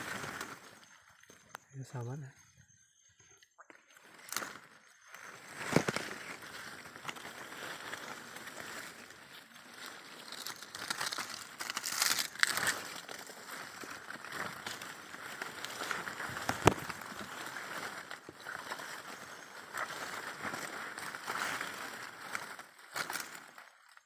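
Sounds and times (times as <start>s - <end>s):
leaves and branches rustling: 0.0s - 2.2s, 3.9s - 24.0s.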